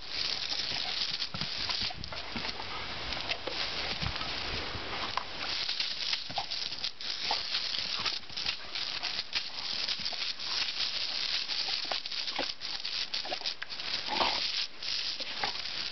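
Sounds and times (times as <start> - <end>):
hose jet hissing onto gravel: 0.0 - 2.5, 3.1 - 15.9
dog biting at water stream: 0.0 - 4.4, 5.0 - 15.9.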